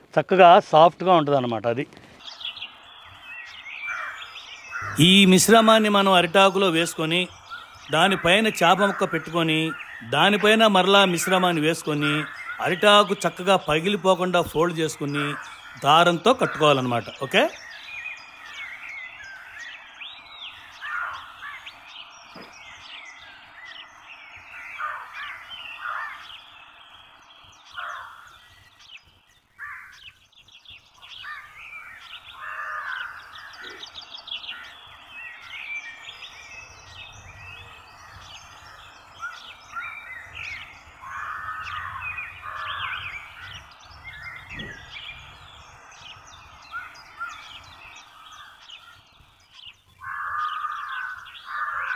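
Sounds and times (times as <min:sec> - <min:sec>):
birds chirping and calling: 0:00.0 - 0:51.9
harsh bird caws: 0:03.0 - 0:30.2, 0:31.0 - 0:51.9.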